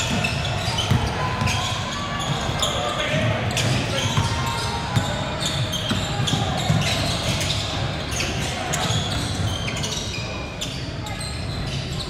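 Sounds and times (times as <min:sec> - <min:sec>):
crowd chatter in echoing hall: 0:00.0 - 0:12.0.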